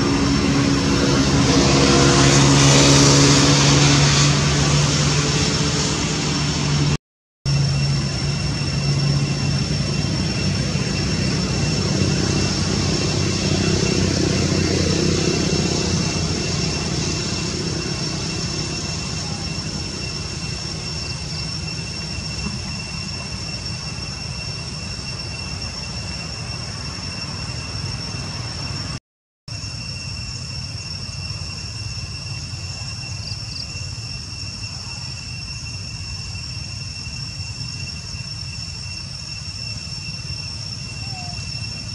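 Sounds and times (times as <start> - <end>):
high-pitched drone and hiss: 0.0 - 41.9.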